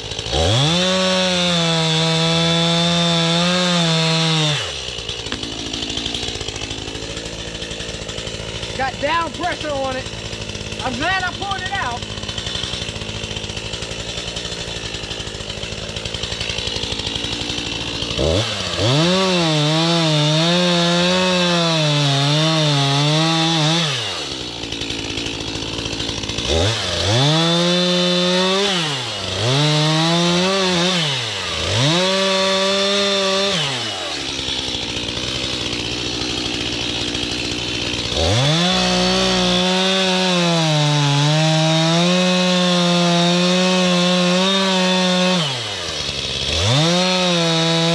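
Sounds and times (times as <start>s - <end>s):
chainsaw revving and cutting: 0.0s - 47.9s.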